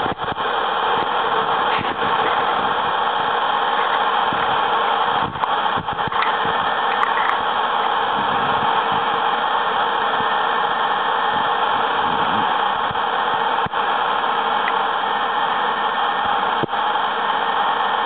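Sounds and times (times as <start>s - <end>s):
steady loud hiss: 0.0s - 18.0s.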